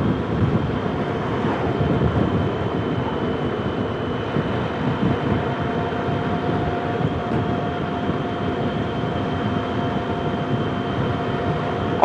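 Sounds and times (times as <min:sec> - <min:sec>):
thin constant whine: 0:00.0 - 0:12.0
wind rush: 0:00.0 - 0:12.0.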